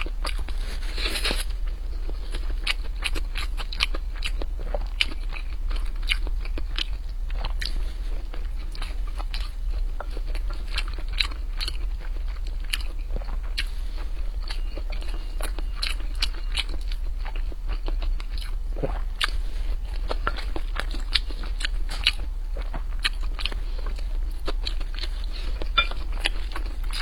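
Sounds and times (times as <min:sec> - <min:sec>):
chewing and biting food: 0:00.0 - 0:27.0.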